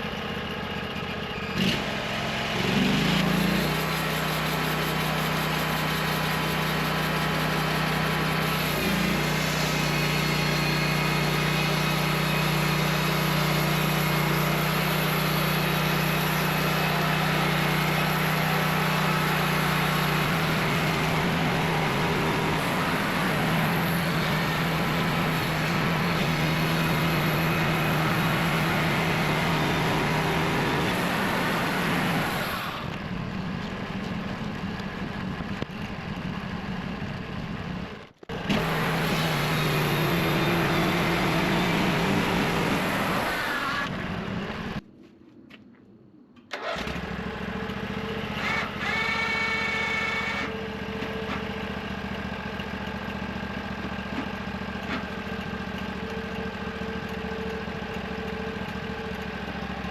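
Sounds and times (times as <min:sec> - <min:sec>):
sawmill engine running: 0:00.0 - 0:44.9, 0:45.6 - 0:59.9.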